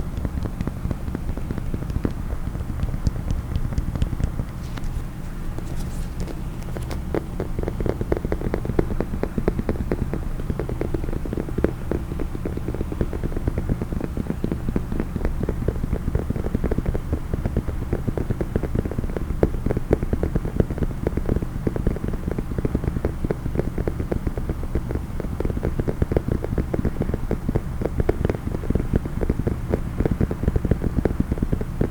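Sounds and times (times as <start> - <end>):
low steady hum: 0.0 - 31.9
rapid tapping on a hard case: 0.0 - 31.9.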